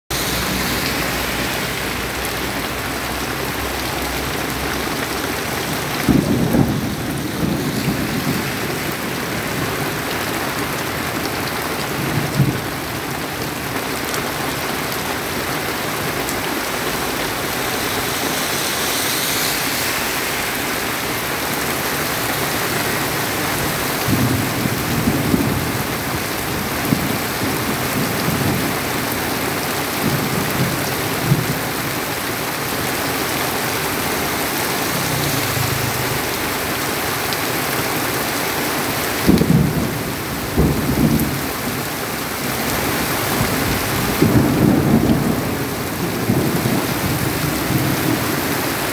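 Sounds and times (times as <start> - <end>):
heavy rain hissing: 0.1 - 48.9.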